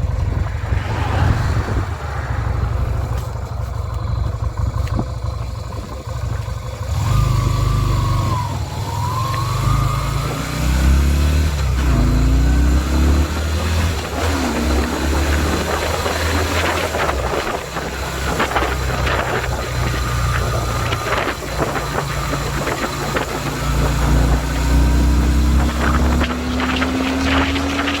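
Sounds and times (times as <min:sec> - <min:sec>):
wind rushing over microphone: 0:00.0 - 0:06.2, 0:06.9 - 0:28.0
motorcycle engine accelerating: 0:00.0 - 0:28.0.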